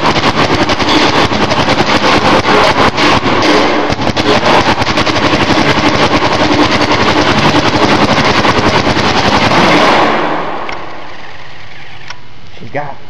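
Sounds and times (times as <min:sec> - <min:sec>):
paintball marker rapid firing: 0:00.0 - 0:11.4.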